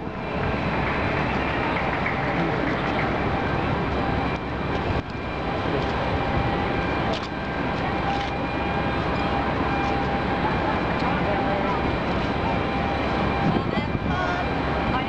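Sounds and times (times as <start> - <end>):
loud outdoor roar: 0.0 - 15.0.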